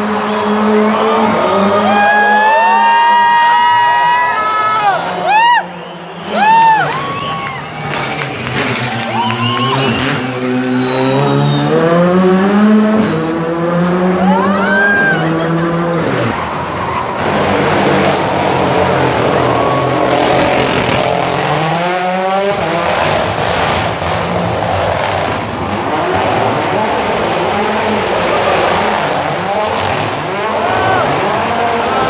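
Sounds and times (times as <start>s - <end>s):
rally car engine revving: 5.8s - 32.0s.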